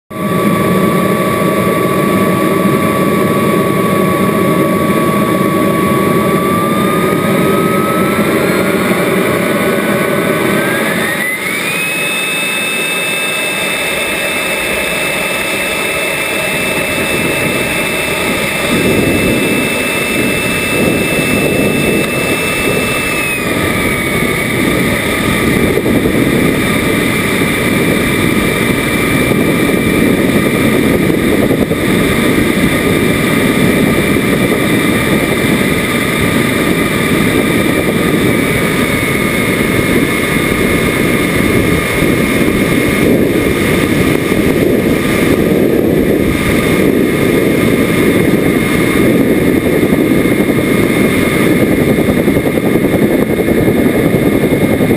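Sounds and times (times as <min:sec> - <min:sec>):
model jet engine whine: 0:00.1 - 0:54.9
rushing air: 0:00.2 - 0:54.9.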